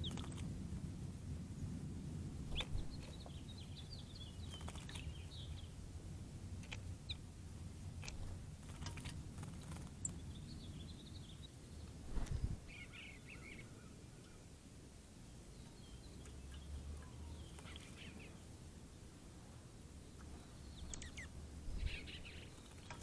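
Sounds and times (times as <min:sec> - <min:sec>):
songbirds twittering: 0:00.0 - 0:00.5, 0:01.5 - 0:23.0
low background rumble: 0:00.0 - 0:23.0.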